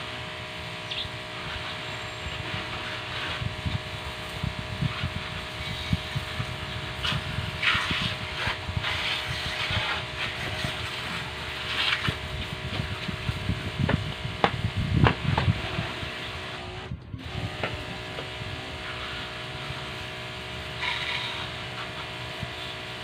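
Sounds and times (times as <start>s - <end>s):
water jet hissing: 0.0s - 16.4s, 17.2s - 23.0s
pressure washer motor humming: 0.0s - 23.0s.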